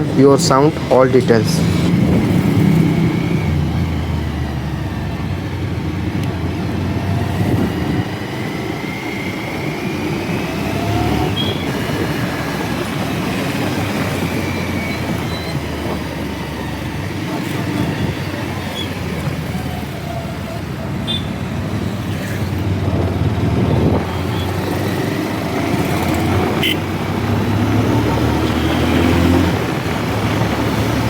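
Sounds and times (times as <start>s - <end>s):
motorcycle engine hum: 0.0s - 31.0s
wind and road noise: 0.0s - 31.0s.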